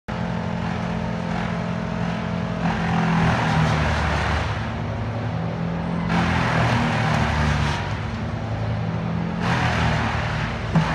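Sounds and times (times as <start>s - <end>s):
engine running: 0.1s - 10.9s.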